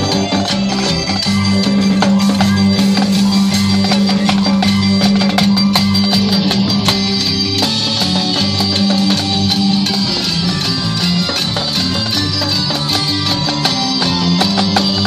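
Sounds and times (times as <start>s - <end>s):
backing track with bass line: 0.0s - 15.0s.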